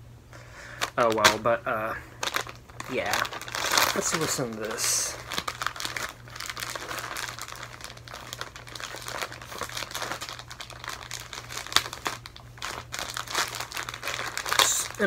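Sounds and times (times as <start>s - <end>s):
plastic bag crinkling: 0.7s - 1.5s, 2.1s - 15.0s.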